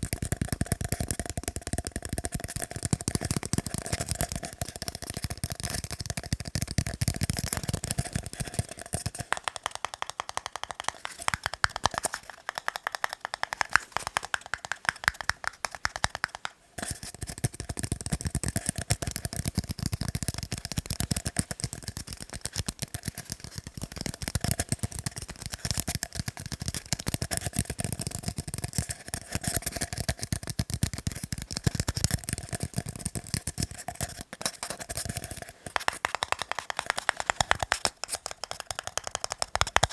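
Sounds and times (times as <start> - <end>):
rapid tapping on tiny cups: 0.0 - 39.9.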